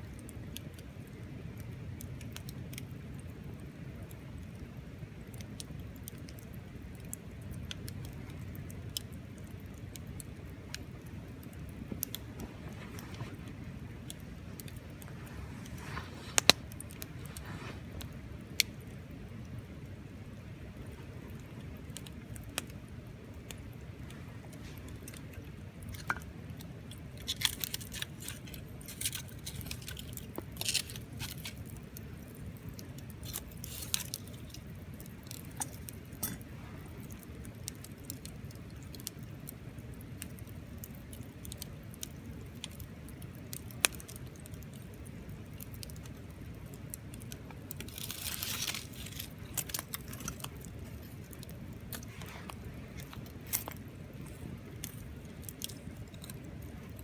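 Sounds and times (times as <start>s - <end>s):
campfire crackling: 0.0s - 57.0s
low fire rumble: 0.0s - 57.0s.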